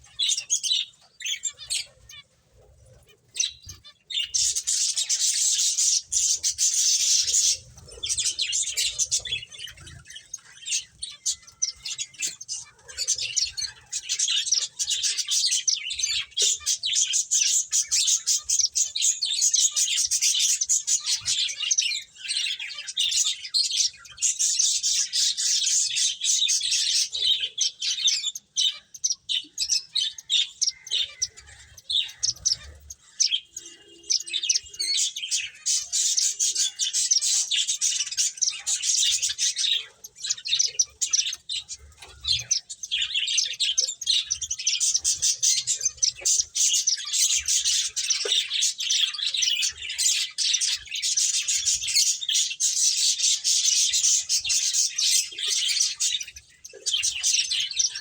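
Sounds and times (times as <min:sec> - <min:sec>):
finches chirping: 0:00.0 - 0:58.0.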